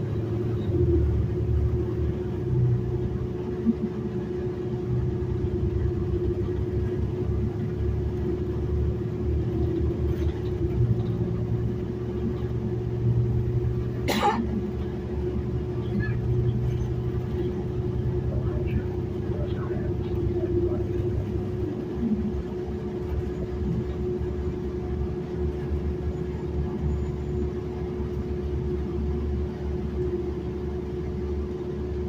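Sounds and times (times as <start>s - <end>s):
bus engine and road rumble: 0.0s - 32.0s.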